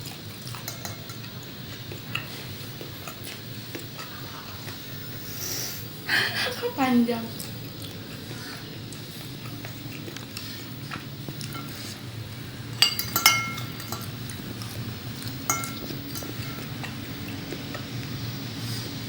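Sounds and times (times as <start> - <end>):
utensils clinking against dishes: 0.0 - 4.8, 6.7 - 18.9.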